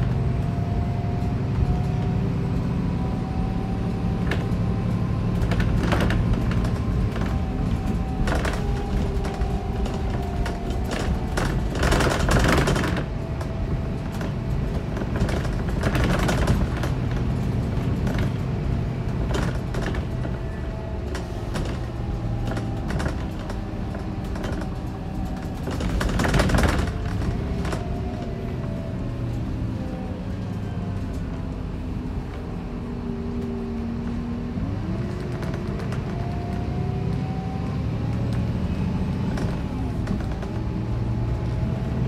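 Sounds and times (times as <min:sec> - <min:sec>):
coach engine and road rumble: 0:00.0 - 0:42.0.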